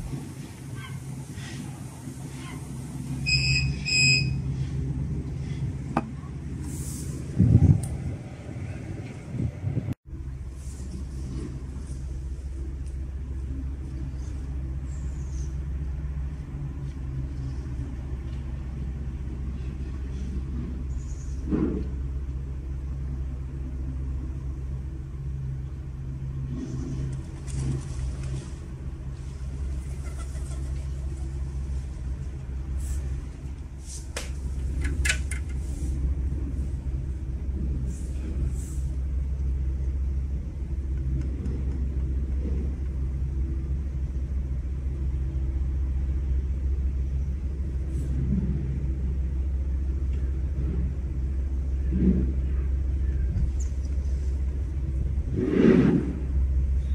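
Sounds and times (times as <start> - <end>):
low droning hum and rumble: 0.0 - 56.9.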